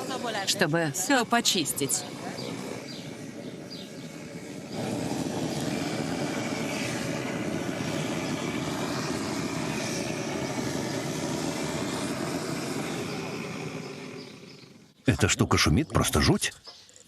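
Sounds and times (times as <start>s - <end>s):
gas torch roaring: 0.0s - 16.5s.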